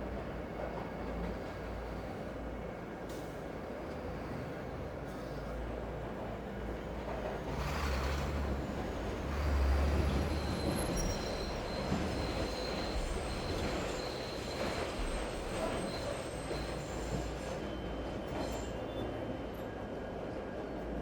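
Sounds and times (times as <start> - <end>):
train rumbling past: 0.0 - 19.6.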